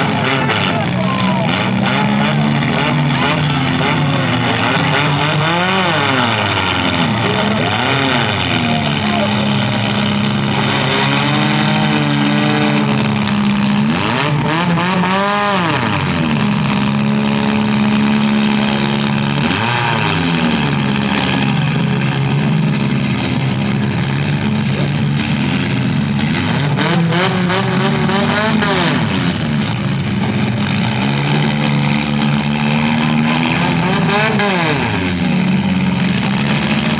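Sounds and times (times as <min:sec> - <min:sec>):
car engines running hard: 0:00.0 - 0:36.9
engine revving: 0:00.0 - 0:36.9.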